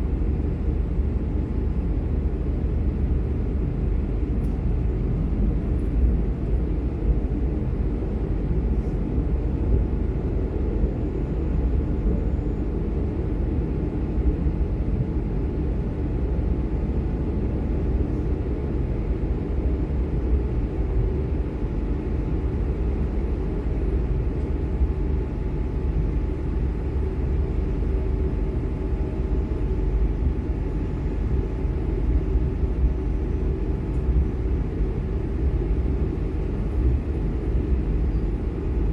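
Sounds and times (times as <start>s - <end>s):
faint steady whine: 0.0s - 38.9s
jet engine low rumble: 0.0s - 38.9s.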